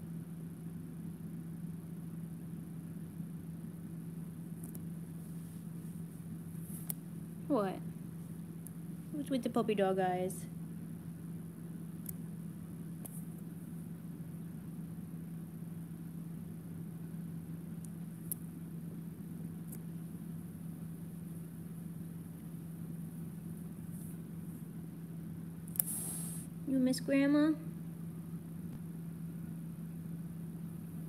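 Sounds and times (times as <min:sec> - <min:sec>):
low room hum: 0:00.0 - 0:31.0.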